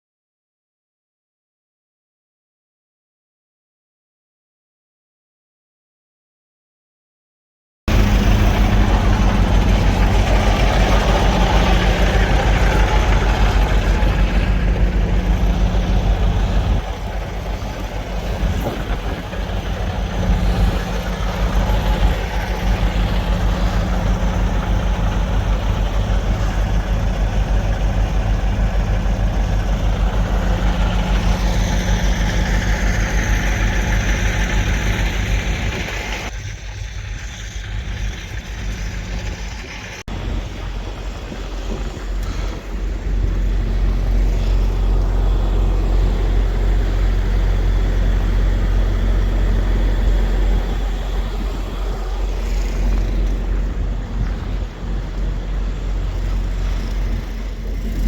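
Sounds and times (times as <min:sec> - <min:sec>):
diesel truck engine idling: 0:07.9 - 0:58.0.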